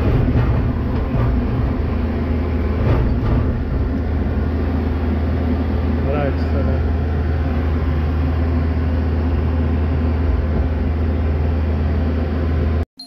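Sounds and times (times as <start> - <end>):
diesel engine running: 0.0 - 12.8.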